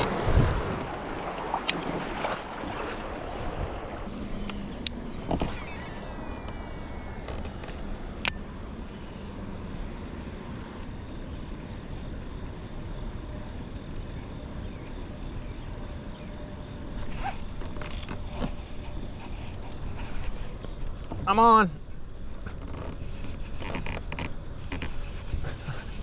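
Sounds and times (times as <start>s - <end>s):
river low rumble: 0.0s - 26.0s
high insect drone: 4.0s - 26.0s.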